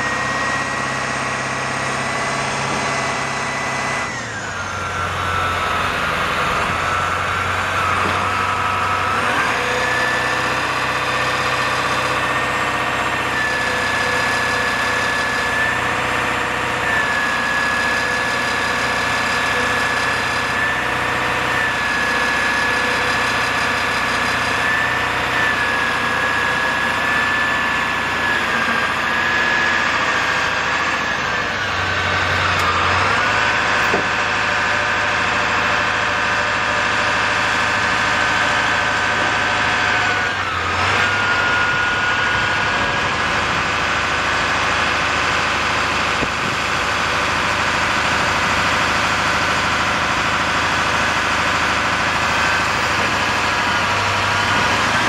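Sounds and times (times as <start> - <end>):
diesel engine idling: 0.0 - 55.0
hydraulic whine: 0.0 - 55.0.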